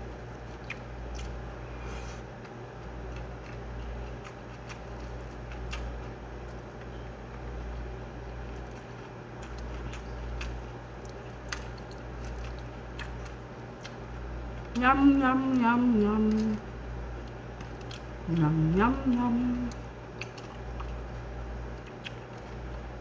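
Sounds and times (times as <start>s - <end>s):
steady low hum: 0.0s - 23.0s
chewing: 0.4s - 14.8s, 16.0s - 22.9s.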